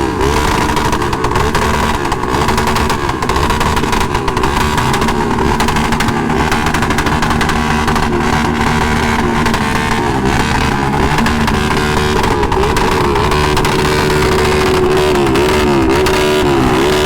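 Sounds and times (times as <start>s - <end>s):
motorcycle engines revving: 0.0s - 17.0s
road noise rush: 0.0s - 17.0s.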